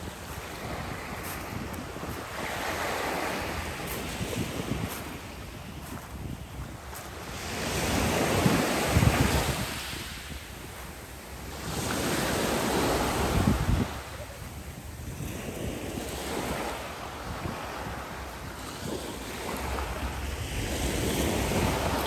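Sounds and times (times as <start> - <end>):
waves washing up pebble beach: 0.0 - 22.0
wind rumbling on microphone: 0.0 - 22.0.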